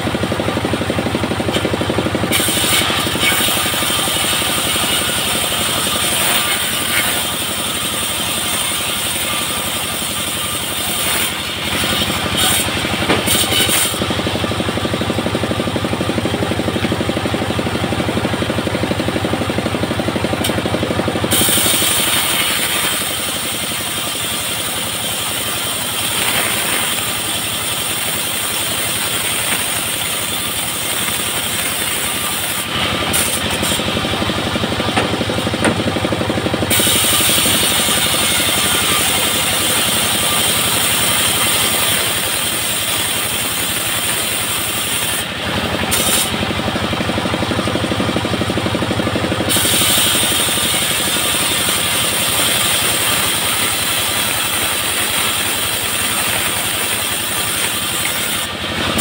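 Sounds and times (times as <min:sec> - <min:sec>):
bandsaw sawmill engine running: 0:00.0 - 0:59.0
saw blade cutting log: 0:00.0 - 0:59.0.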